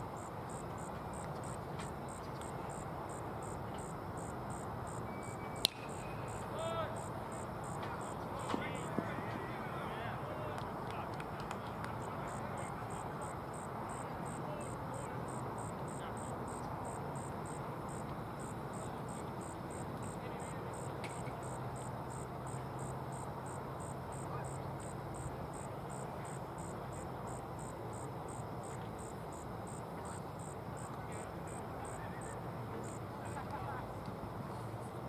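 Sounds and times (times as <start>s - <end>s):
insect chirping: 0.0s - 8.9s, 12.3s - 33.0s
outdoor field hum: 0.0s - 35.0s.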